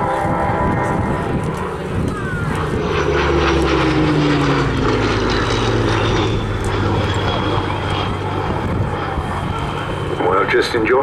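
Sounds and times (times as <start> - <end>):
propeller plane engine flying past: 0.0 - 11.0.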